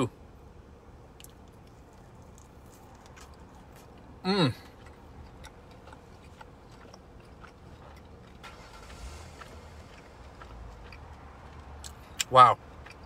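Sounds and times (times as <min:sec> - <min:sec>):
low rumble inside car: 0:00.0 - 0:13.0
person chewing food: 0:01.2 - 0:13.0.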